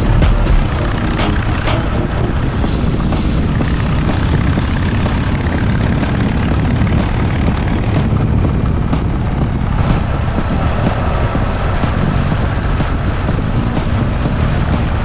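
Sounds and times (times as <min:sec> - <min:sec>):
motorcycle engine rumbling: 0:00.0 - 0:15.0
wind buffeting microphone: 0:00.0 - 0:15.0.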